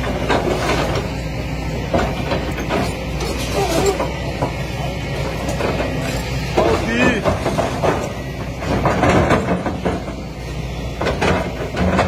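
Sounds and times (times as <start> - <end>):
bucket and tracks clanking: 0.0 - 12.0
excavator diesel engine running: 0.0 - 12.0.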